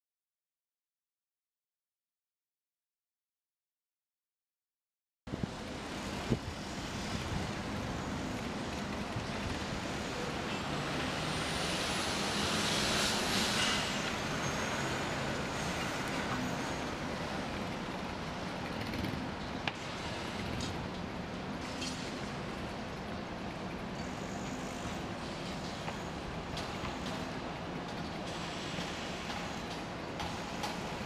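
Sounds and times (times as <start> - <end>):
road traffic noise: 5.3 - 31.0.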